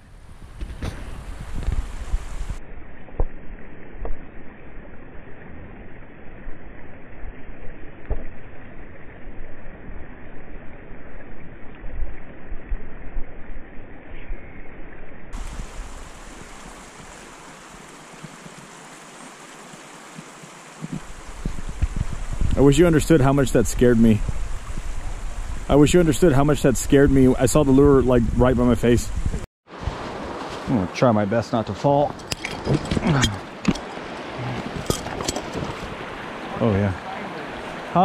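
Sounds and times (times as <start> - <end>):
wind rumbling on microphone: 0.0 - 18.7, 20.8 - 30.8, 32.0 - 37.9.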